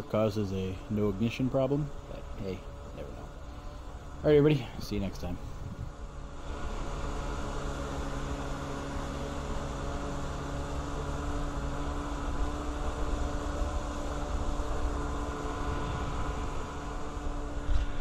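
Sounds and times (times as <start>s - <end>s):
jet ski engine running: 0.0s - 18.0s
water and wind noise: 0.9s - 18.0s.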